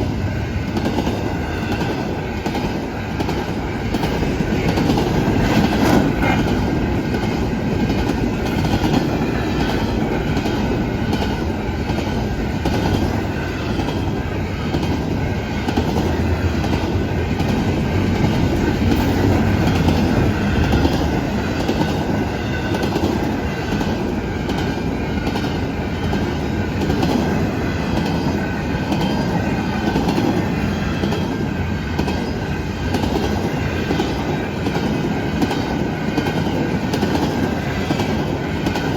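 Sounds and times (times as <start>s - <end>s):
freight train wheels rumbling on rails: 0.0s - 38.9s.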